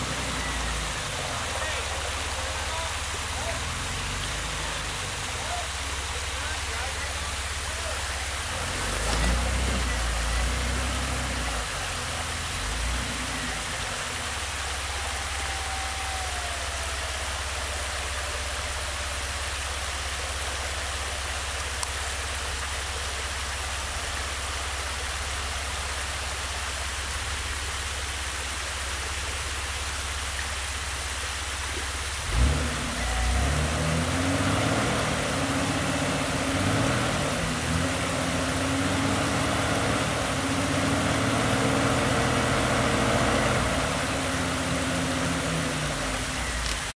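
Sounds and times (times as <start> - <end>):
vehicle engine running: 0.0 - 46.9
water rushing over waterfall: 0.0 - 46.9.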